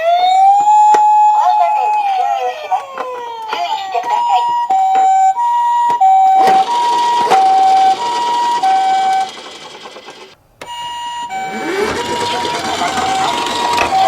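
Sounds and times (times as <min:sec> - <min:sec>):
toy two-tone electronic siren: 0:00.0 - 0:14.0.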